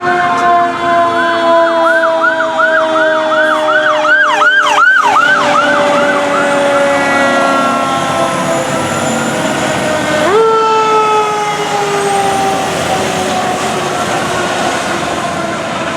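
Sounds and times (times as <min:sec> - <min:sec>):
siren steady whine: 0:00.0 - 0:15.9
fast electronic siren yelp: 0:00.6 - 0:14.8.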